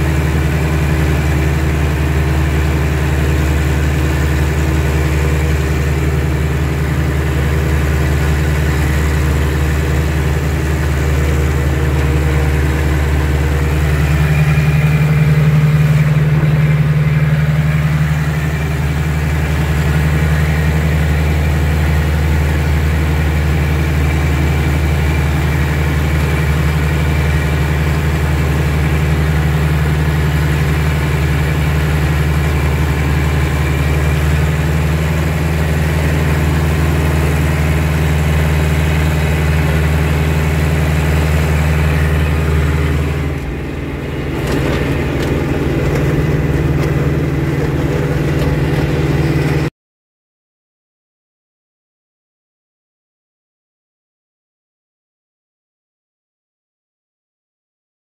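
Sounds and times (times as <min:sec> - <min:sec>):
tractor diesel engine running: 0:00.0 - 0:49.7.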